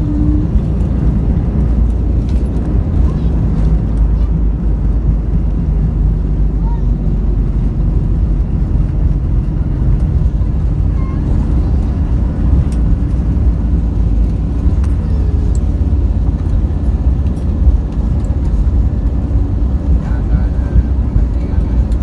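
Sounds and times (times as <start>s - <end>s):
vehicle rumbling from inside: 0.0s - 22.0s.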